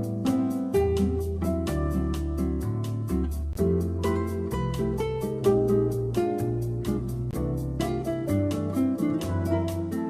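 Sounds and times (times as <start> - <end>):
held bass notes: 0.0 - 10.0
plucked notes: 0.0 - 10.0.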